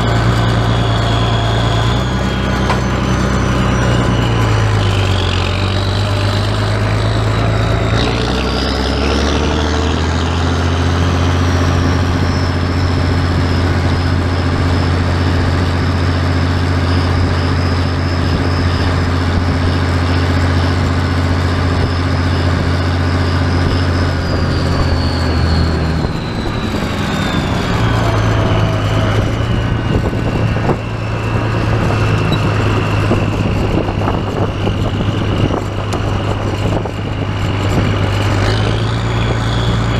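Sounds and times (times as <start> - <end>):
high whine: 0.0 - 39.9
tractor engine running: 0.0 - 39.9.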